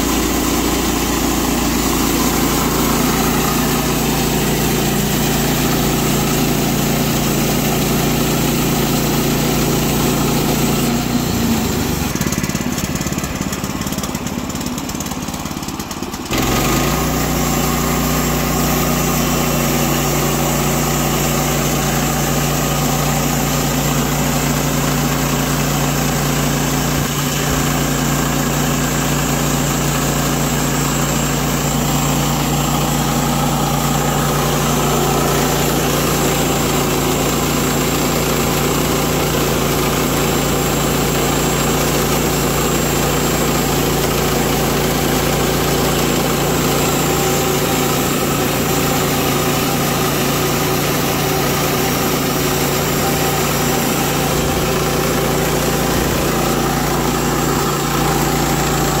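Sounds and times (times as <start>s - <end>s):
band saw cutting wood: 0.0s - 59.0s
small gasoline engine running: 0.0s - 59.0s.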